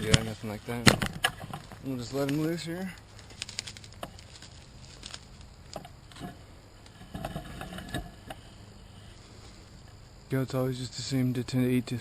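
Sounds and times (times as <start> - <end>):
leaves and twigs rustling: 0.0 - 10.2.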